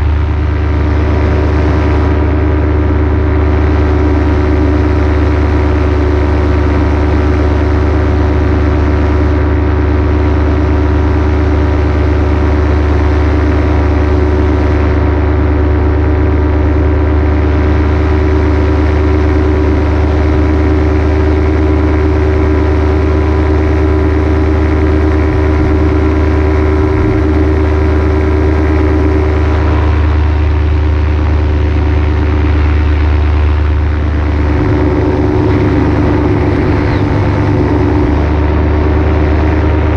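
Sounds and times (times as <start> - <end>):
paramotor engine drone: 0.0 - 39.9.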